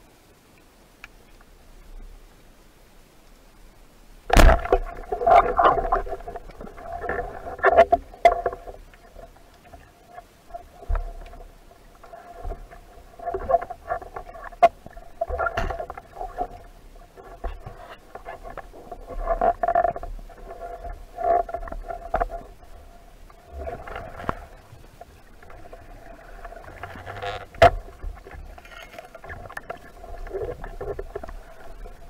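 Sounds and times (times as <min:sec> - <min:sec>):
underwater gurgling: 0:04.2 - 0:32.0.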